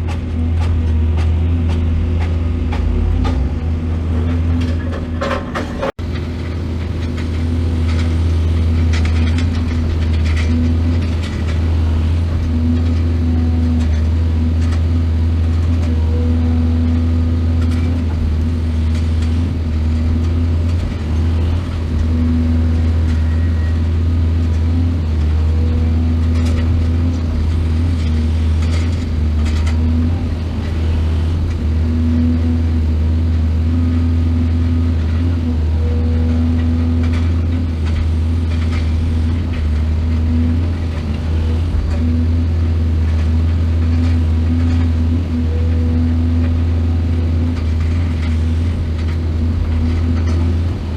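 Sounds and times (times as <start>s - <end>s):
diesel engine running: 0.0s - 50.9s
digging knocks and clanks: 0.0s - 50.9s.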